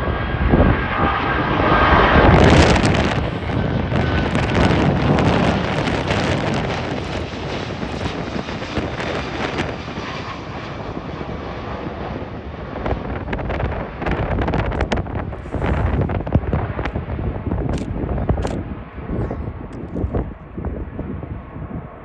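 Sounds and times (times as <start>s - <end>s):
jet engines rumbling: 0.0s - 22.0s
wind buffeting microphone: 0.0s - 22.0s.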